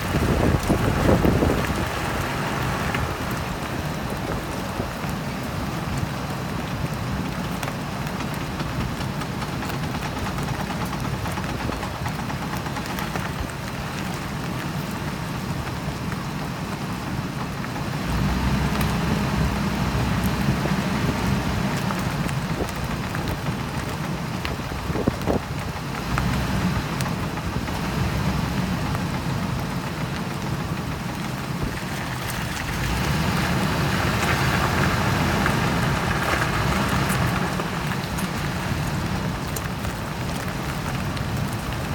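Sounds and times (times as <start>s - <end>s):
vehicle road and driveline rumble: 0.0s - 41.9s.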